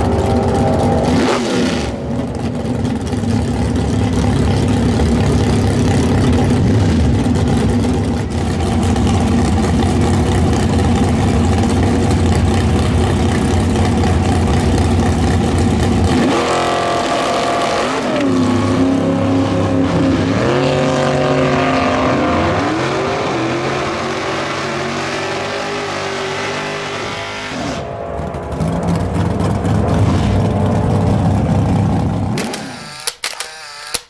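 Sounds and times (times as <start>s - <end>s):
drag race cars accelerating: 0.0s - 32.5s.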